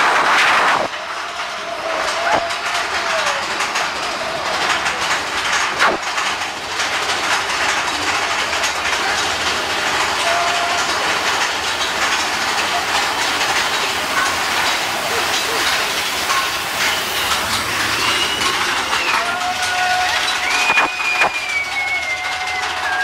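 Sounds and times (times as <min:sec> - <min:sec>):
ride train wheels rumbling on track: 0:00.0 - 0:23.0.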